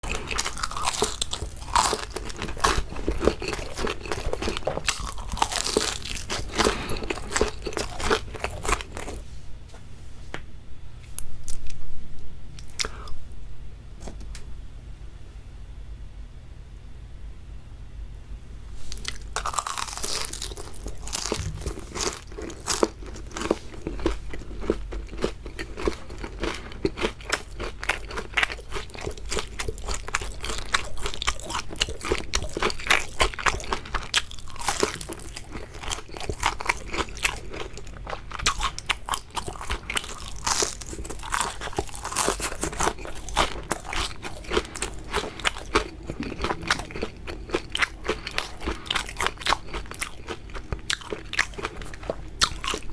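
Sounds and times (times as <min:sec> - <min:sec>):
crunchy chewing: 0:00.0 - 0:09.2, 0:18.8 - 0:52.9.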